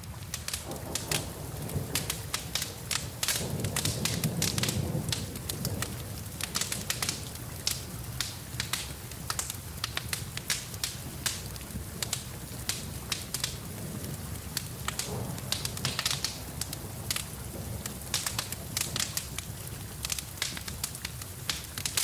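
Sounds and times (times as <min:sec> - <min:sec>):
rain hissing: 0:00.0 - 0:22.0
wood fire crackling: 0:00.0 - 0:22.0.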